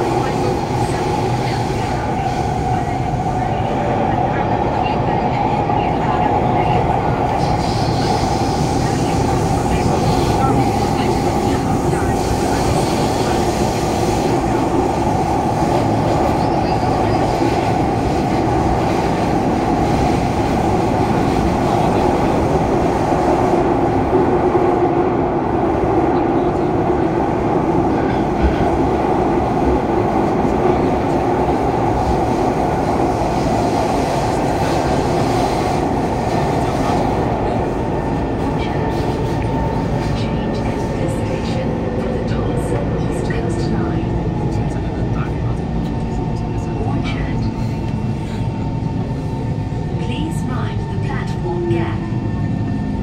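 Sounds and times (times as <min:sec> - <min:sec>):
train wheels rumbling on rail: 0:00.0 - 0:53.0
tunnel roar inside carriage: 0:00.0 - 0:53.0.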